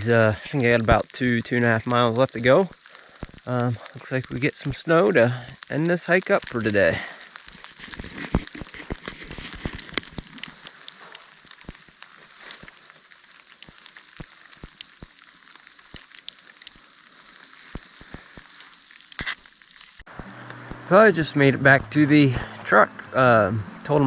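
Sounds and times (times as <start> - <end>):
falling snow pattering: 0.0 - 24.0
soft hiss: 0.0 - 24.0.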